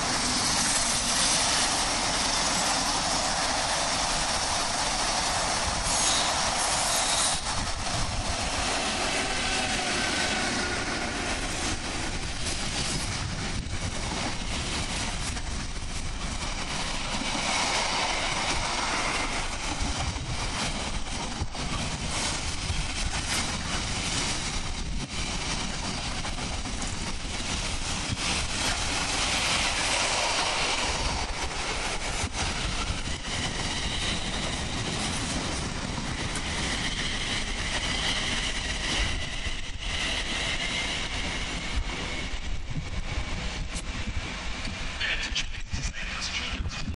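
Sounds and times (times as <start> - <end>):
freight train wheels on rails: 0.0 - 46.9.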